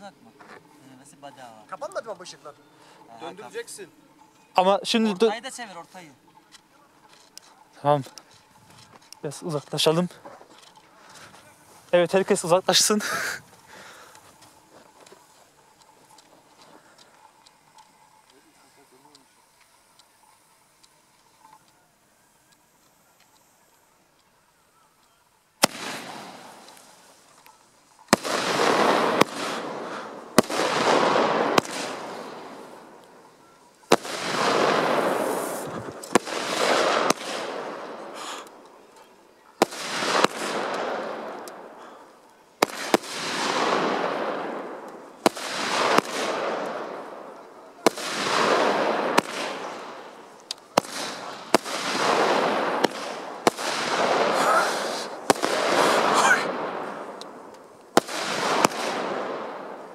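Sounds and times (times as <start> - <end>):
fireworks shots cracking: 0.0 - 21.7, 25.4 - 59.9
fireworks hiss: 0.0 - 59.9.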